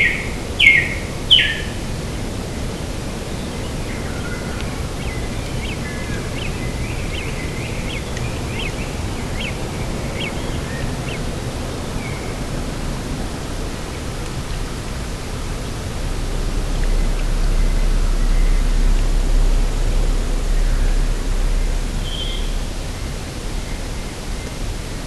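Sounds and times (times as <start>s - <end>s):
sea: 0.0s - 25.0s
wind: 0.0s - 25.0s
low rumble: 1.8s - 25.0s.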